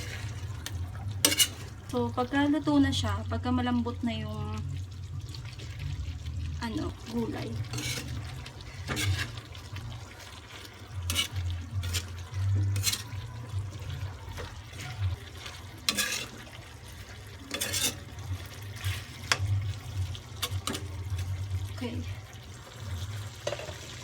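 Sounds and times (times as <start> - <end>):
stew bubbling: 0.0 - 24.0.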